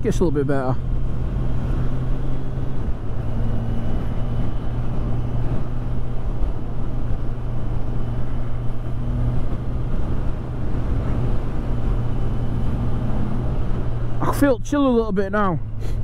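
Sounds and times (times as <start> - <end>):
motorcycle engine cruising: 0.0 - 16.0
wind and road noise: 0.0 - 16.0.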